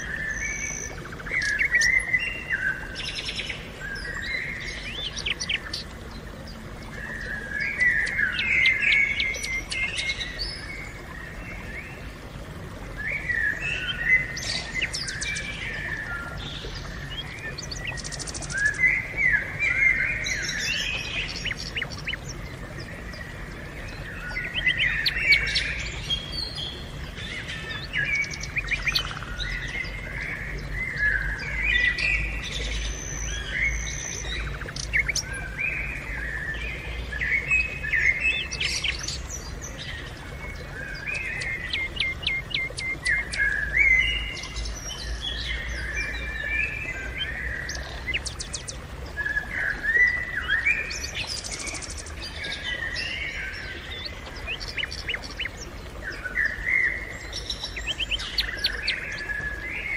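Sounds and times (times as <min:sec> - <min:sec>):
birds singing and chirping: 0:00.0 - 0:59.9.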